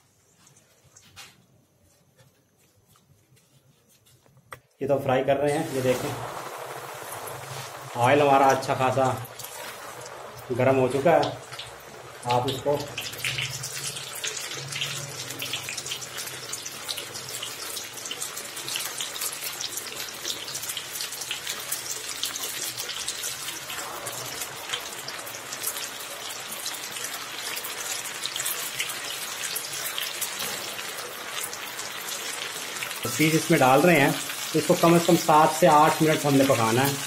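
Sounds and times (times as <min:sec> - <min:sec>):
chicken deep-frying in oil: 0:04.8 - 0:37.0.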